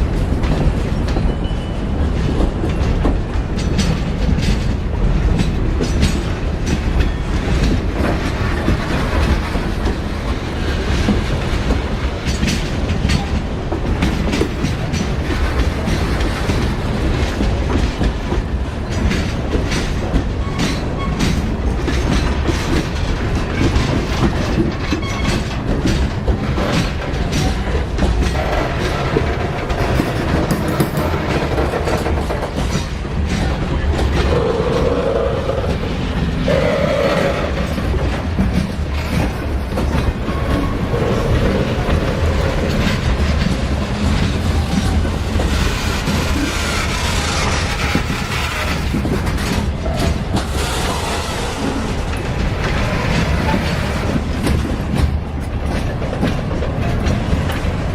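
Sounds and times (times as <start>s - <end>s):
train rumbling past: 0.0s - 57.9s
train wheels clattering: 0.0s - 57.9s.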